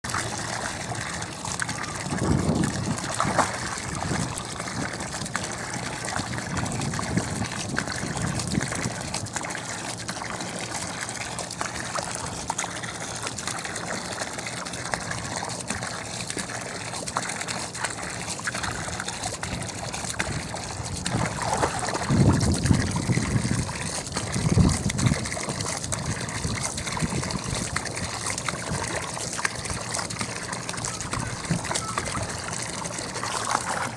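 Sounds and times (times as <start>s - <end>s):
hose spraying water into pool: 0.0s - 33.9s
water splashing: 0.0s - 33.9s.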